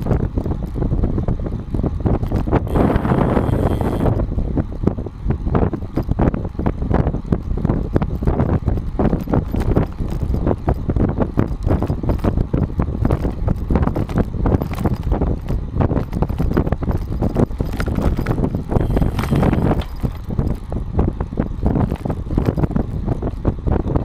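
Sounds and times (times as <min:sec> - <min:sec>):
bicycle road vibration rattle: 0:00.0 - 0:24.0
wind on microphone: 0:00.0 - 0:24.0.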